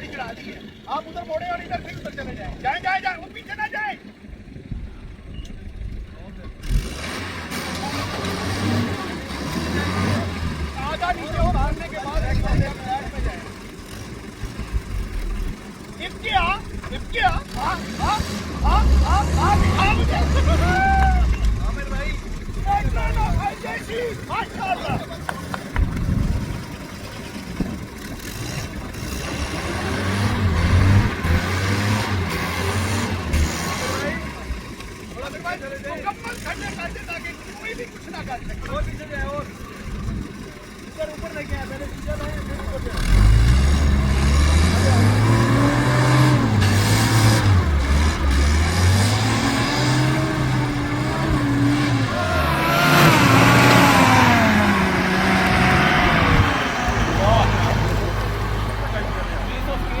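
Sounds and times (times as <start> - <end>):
jeep engine revving: 6.4 - 60.0.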